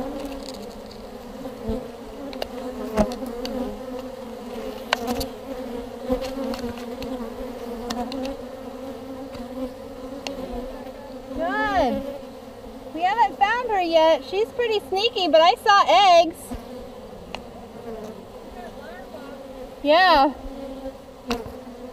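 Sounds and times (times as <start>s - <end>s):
bees buzzing: 0.0s - 21.9s.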